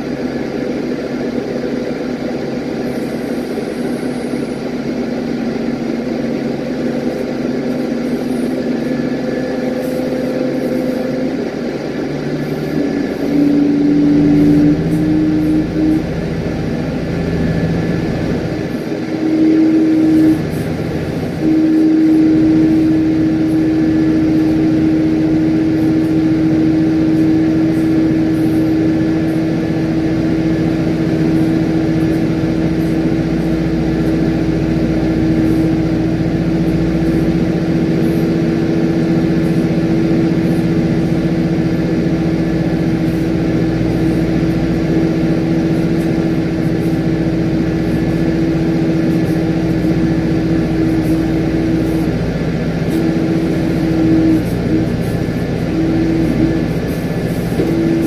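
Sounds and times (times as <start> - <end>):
constant low hum: 0.0 - 58.0
jet airliner drone: 0.0 - 58.0.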